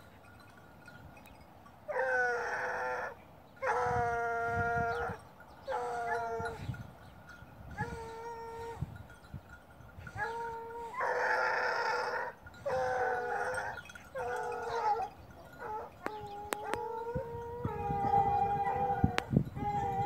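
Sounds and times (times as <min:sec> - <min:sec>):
hounds baying: 0:01.9 - 0:06.8, 0:07.7 - 0:09.0, 0:10.0 - 0:20.0.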